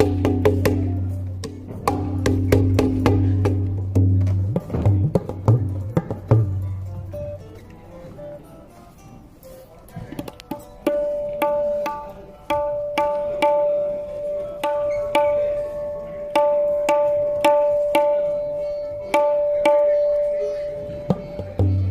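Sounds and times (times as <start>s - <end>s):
tabla drum ringing strokes: 0.0s - 7.6s, 10.6s - 21.9s.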